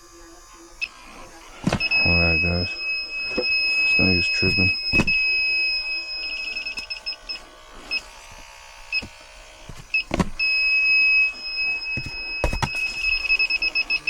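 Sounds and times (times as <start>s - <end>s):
leak detector alarm beeping: 0.8s - 8.2s, 8.8s - 9.2s, 9.8s - 14.0s.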